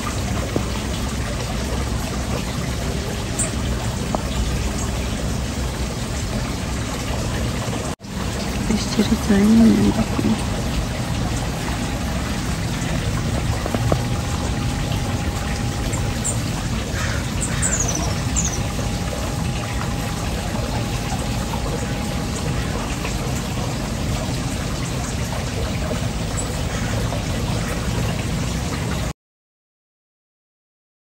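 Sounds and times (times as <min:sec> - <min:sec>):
water pouring and splashing: 0:00.0 - 0:29.1.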